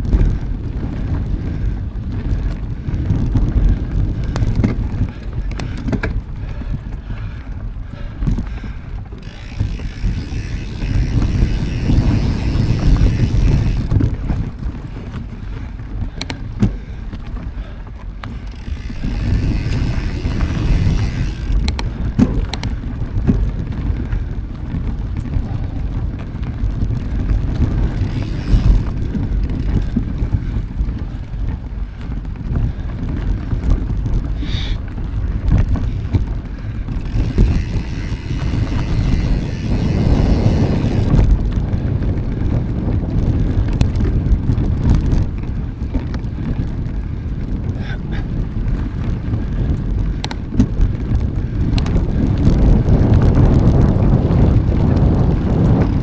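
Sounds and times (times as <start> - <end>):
bike clicks and rattles: 0.0 - 56.0
bike rolling noise: 0.0 - 56.0
wind rumbling on microphone: 0.0 - 56.0.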